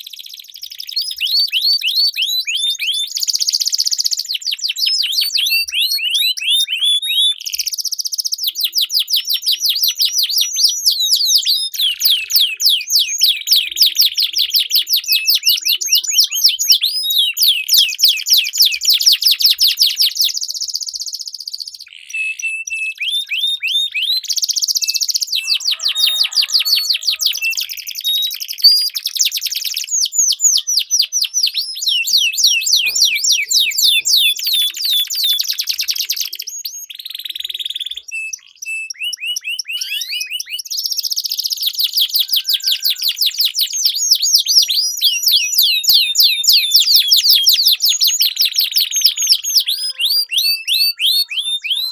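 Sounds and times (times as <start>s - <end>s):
canary trills and chirps: 0.0s - 51.9s.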